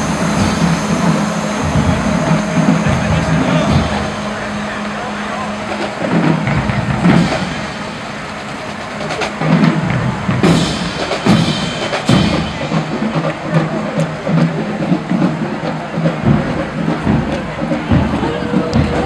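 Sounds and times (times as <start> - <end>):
bass drum beat: 0.0 - 7.9, 8.8 - 19.0.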